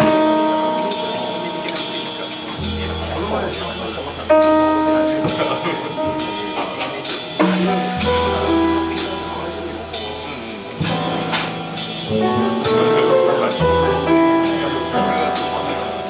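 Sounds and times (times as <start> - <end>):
double bass: 0.0 - 16.0
drum kit: 0.0 - 16.0
grand piano: 0.0 - 16.0.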